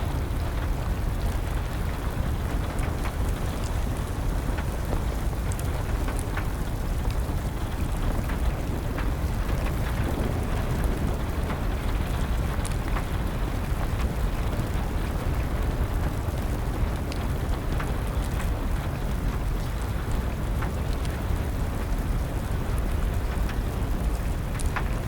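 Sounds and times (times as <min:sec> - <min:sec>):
steady rain: 0:00.0 - 0:25.0
wood fire crackling and popping: 0:00.0 - 0:25.0.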